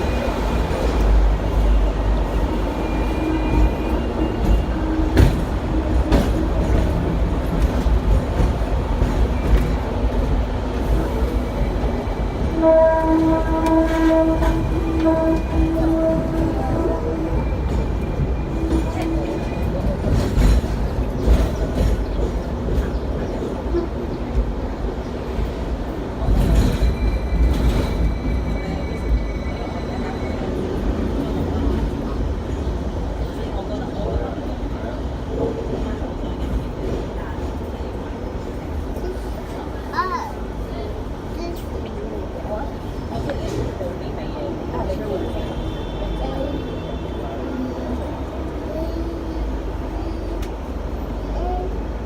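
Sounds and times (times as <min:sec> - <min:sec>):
tram rumbling: 0:00.0 - 0:52.0.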